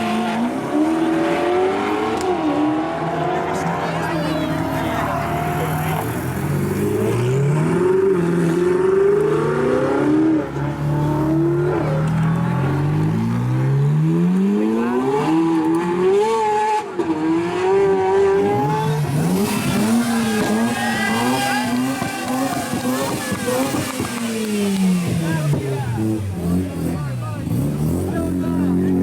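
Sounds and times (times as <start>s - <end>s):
car engines revving and accelerating: 0.0s - 29.0s.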